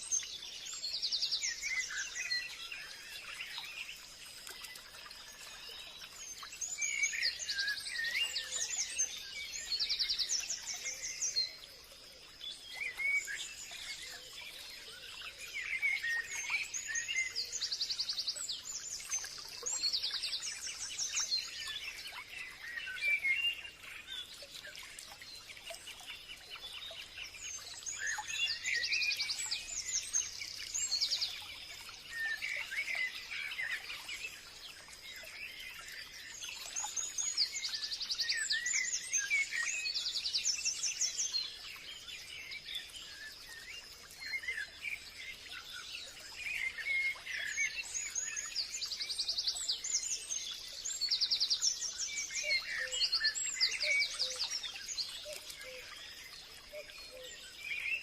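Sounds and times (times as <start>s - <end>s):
forest bird chorus: 0.0s - 58.0s.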